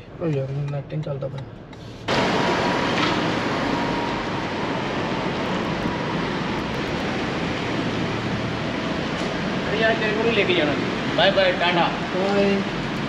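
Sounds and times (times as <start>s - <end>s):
rushing air noise: 2.1s - 13.0s.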